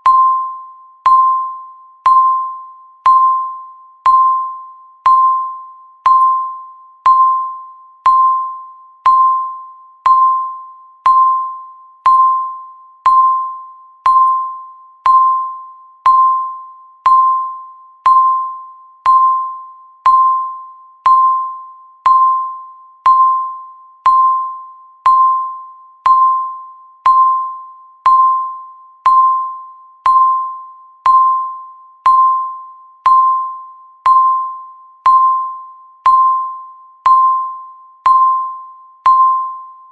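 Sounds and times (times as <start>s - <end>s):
countdown timer beeping: 0.0s - 39.8s.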